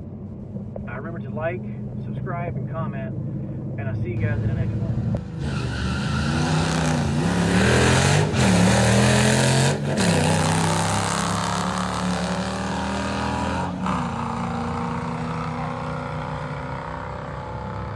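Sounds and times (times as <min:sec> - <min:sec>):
car engines racing: 0:00.8 - 0:17.9.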